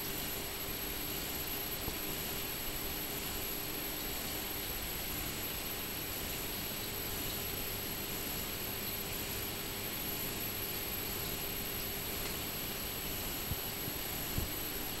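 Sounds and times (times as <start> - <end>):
aquarium filters hissing: 0.0 - 15.0
faint motor hum: 0.0 - 15.0.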